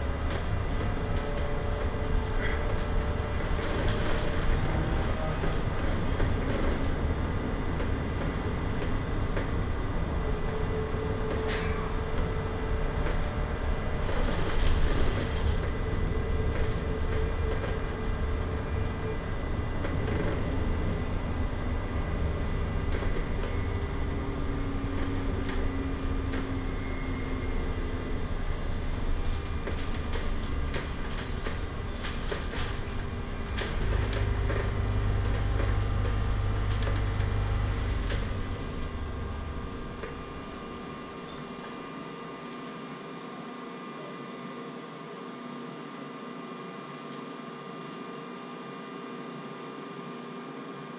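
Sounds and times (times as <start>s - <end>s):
bus low rumble: 0.0s - 42.1s
electric drive whine: 0.0s - 44.7s.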